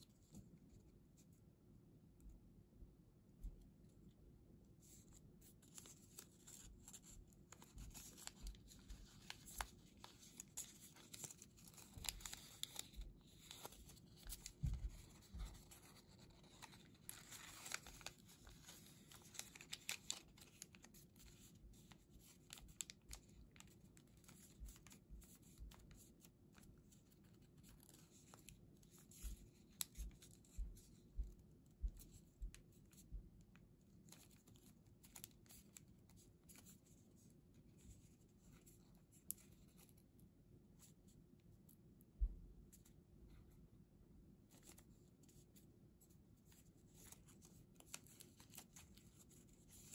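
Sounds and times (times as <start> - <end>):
paper crinkling while folded: 4.8 - 40.1, 44.4 - 49.9.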